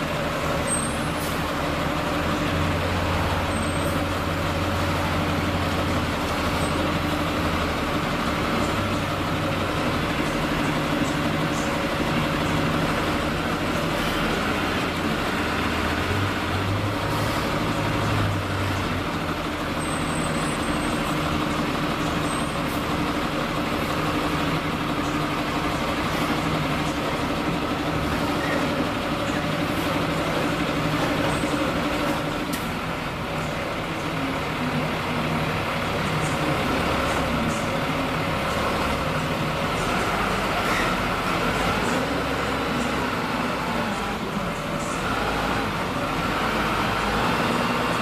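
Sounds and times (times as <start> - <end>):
diesel machinery engine hum: 0.0 - 48.0.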